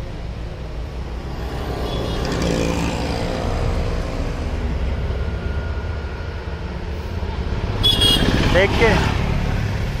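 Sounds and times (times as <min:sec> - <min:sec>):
low traffic rumble: 0:00.0 - 0:10.0
vehicle engines passing: 0:00.0 - 0:10.0.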